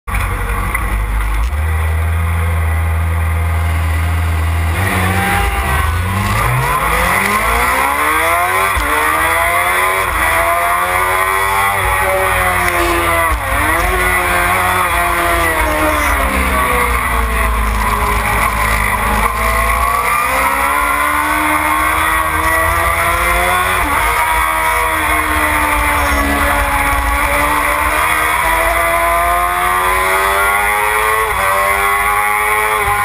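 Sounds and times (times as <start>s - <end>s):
motorcycle engine revving: 0.1s - 33.0s.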